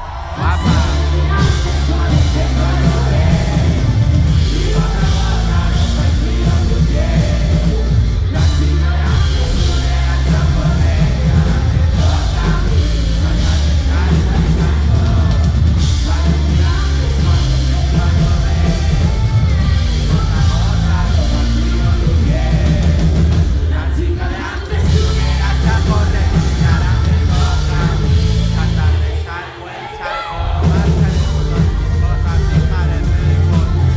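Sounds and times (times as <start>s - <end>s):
live rock band playing: 0.0s - 29.2s, 30.4s - 33.9s
person singing: 0.0s - 33.9s.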